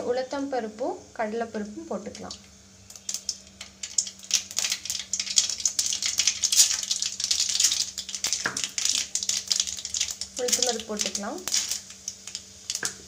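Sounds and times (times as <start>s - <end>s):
seeds spluttering in hot oil: 1.5s - 13.0s.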